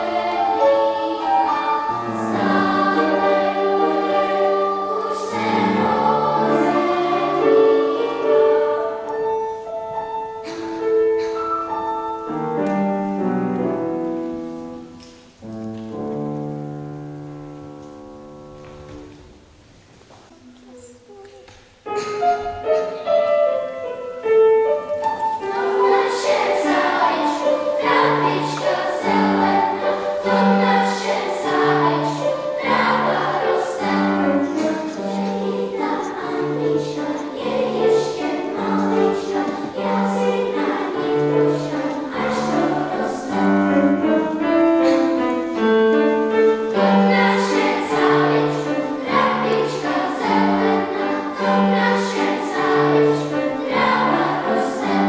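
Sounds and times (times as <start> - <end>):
children's choir singing: 0.0 - 19.6, 20.3 - 55.0
grand piano accompaniment: 0.0 - 55.0.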